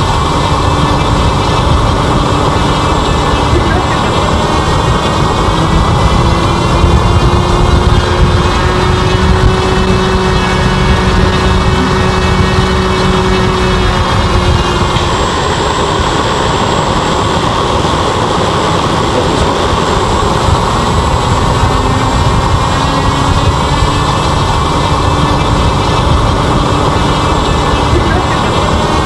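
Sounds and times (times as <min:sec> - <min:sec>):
combustion chamber roaring: 0:00.0 - 0:29.0
electric motor whine: 0:00.0 - 0:29.0.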